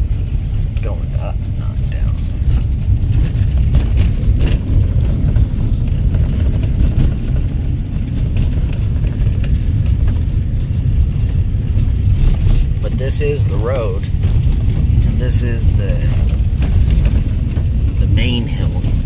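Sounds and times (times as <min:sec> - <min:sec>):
knocks and rattles from bumps: 0:00.0 - 0:19.0
vehicle rumble on dirt road: 0:00.0 - 0:19.0.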